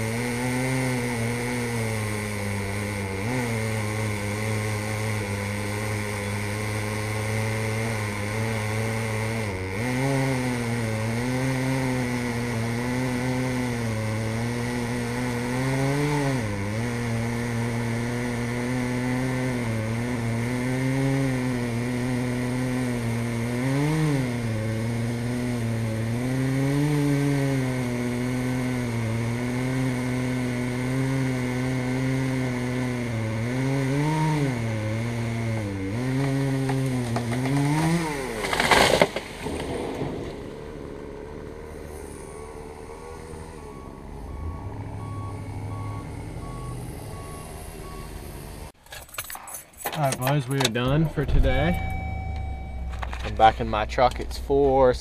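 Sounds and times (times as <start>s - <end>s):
chainsaw cutting wood: 0.0s - 48.8s.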